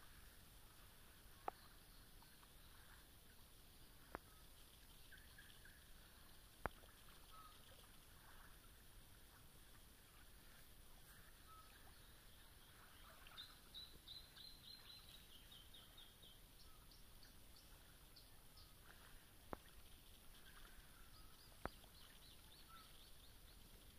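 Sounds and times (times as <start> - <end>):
birdsong: 0.0 - 23.9.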